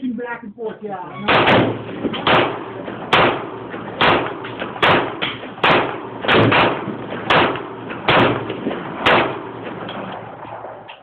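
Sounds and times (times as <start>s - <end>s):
gunshots with echo: 1.3s - 10.9s.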